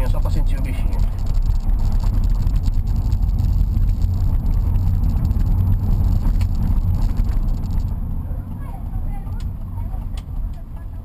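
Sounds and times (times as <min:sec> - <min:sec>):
car engine low rumble: 0:00.0 - 0:11.0
road noise: 0:00.0 - 0:11.0.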